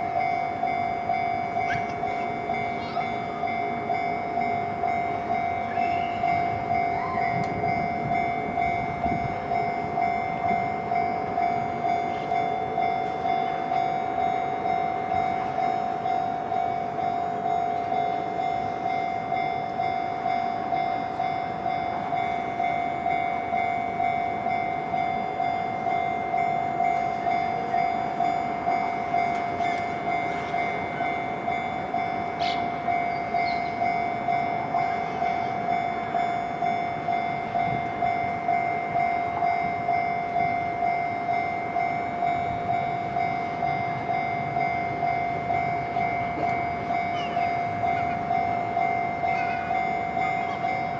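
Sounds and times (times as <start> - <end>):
level-crossing alarm ringing: 0.0 - 50.9.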